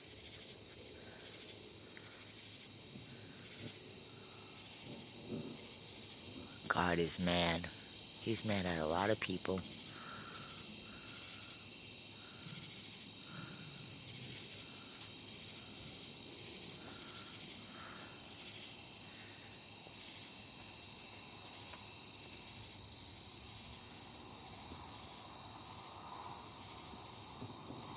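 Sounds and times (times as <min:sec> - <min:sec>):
high-pitched cricket trill: 0:00.0 - 0:27.9
lower insect chirp: 0:00.0 - 0:27.9.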